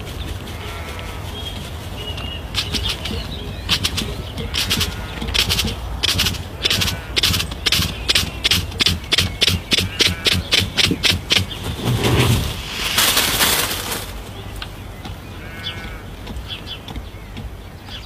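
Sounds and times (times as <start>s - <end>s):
rushing hiss: 0.0s - 14.6s
bird wing-beat pulses: 0.0s - 18.0s.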